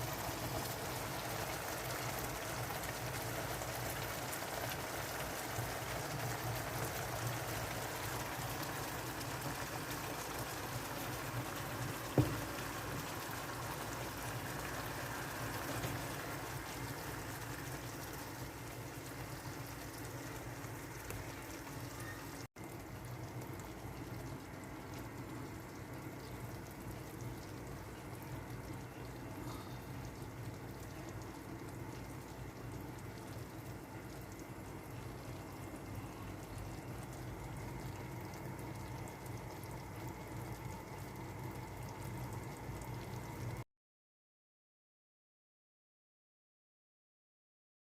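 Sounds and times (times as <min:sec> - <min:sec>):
sauce bubbling and sizzling in pan: 0:00.0 - 0:43.6.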